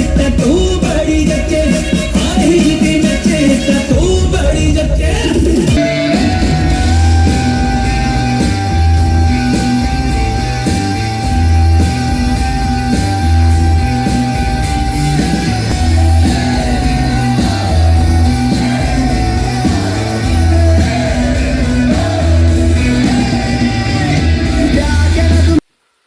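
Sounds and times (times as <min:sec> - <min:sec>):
song with singing and heavy bass: 0:00.0 - 0:25.6.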